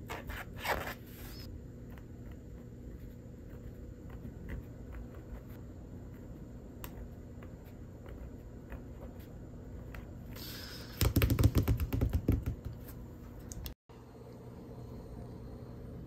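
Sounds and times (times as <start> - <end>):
steady low hum: 0.0 - 11.0, 12.2 - 16.0.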